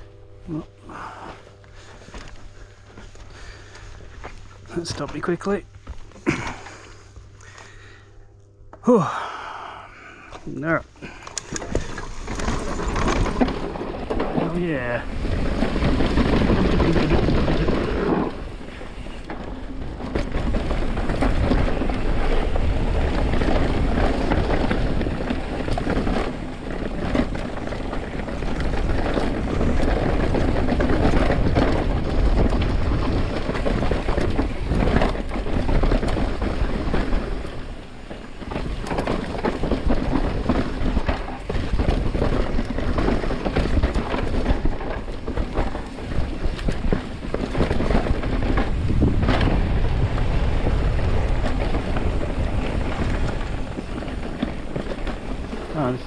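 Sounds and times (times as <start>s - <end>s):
tyres rumbling over dirt: 0.0s - 8.1s, 8.8s - 56.0s
bike knocking over bumps: 11.0s - 56.0s
wind rushing over microphone: 11.0s - 56.0s.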